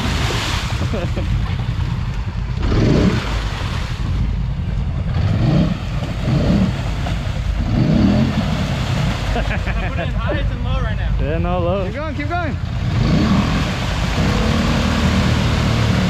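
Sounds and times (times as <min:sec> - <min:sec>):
atv engine revving: 0:00.0 - 0:10.5, 0:11.3 - 0:16.0
tyres churning mud and water: 0:00.0 - 0:16.0.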